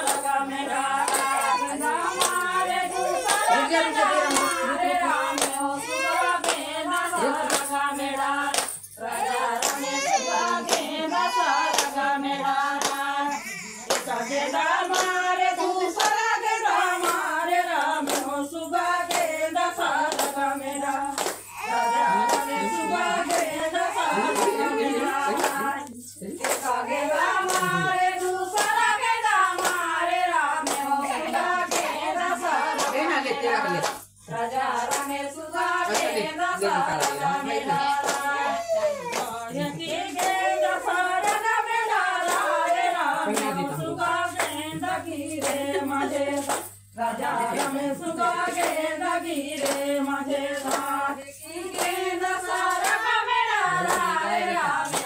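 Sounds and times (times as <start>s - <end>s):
rhythmic hand-clapping: 0.0s - 55.0s
women singing folk song: 0.0s - 55.0s.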